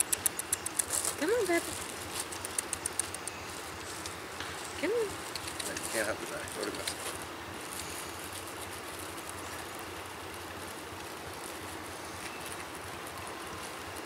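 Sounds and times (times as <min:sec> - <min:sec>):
outdoor rushing hiss: 0:00.0 - 0:14.0.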